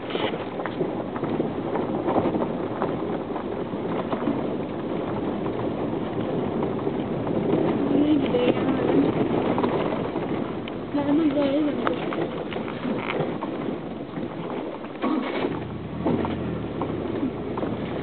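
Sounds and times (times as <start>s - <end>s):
vehicle road noise: 0.0s - 18.0s.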